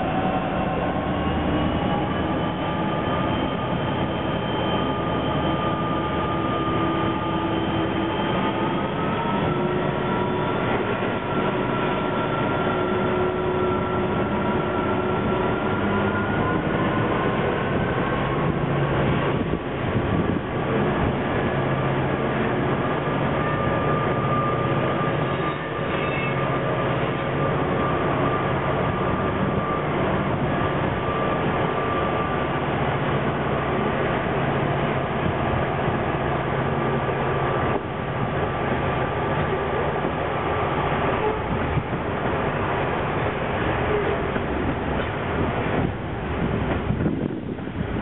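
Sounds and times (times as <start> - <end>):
diesel locomotive engine drone: 0.0 - 48.0.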